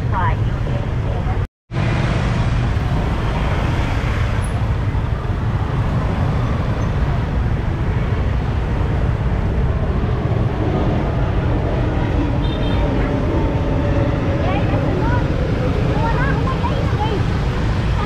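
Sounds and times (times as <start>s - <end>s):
scooters and motorbikes running: 0.0s - 18.0s.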